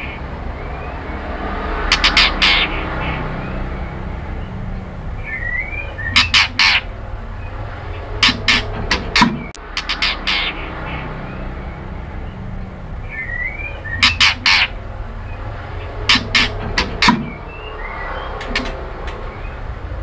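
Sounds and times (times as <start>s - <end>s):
steady low hum: 0.0s - 20.0s
bird giving harsh raspy calls: 0.8s - 3.9s, 5.2s - 12.4s, 13.0s - 19.6s.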